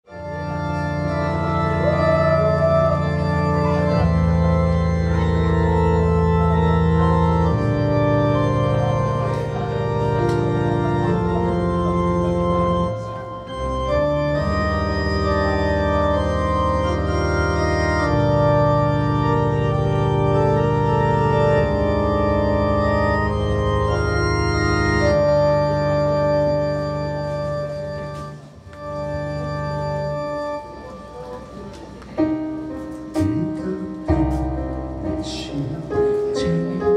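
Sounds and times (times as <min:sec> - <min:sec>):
organ chords on keyboard: 0:00.0 - 0:36.9
low bass notes: 0:00.1 - 0:30.6, 0:32.2 - 0:36.9.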